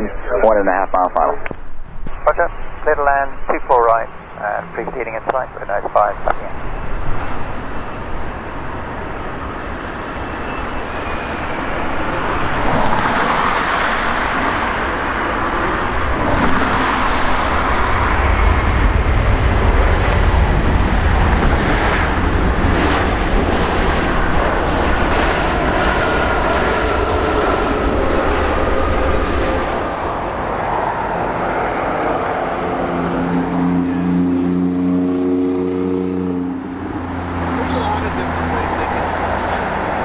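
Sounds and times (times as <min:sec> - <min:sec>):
deep rumble: 0:00.0 - 0:40.0
jet engine roar: 0:00.0 - 0:40.0
jet engine whine: 0:00.0 - 0:40.0.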